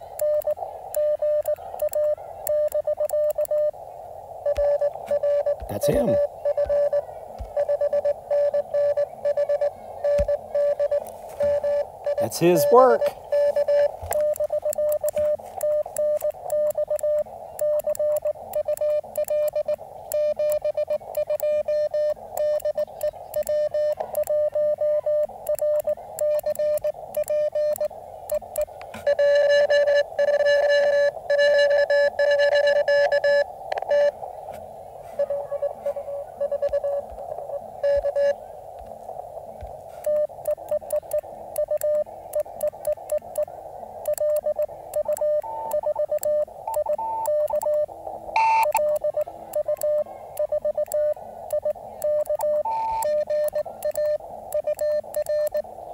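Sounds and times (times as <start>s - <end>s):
morse code beeps: 0.0s - 3.8s, 4.4s - 34.1s, 35.1s - 38.4s, 40.0s - 55.7s
radio receiver hiss: 0.0s - 55.9s.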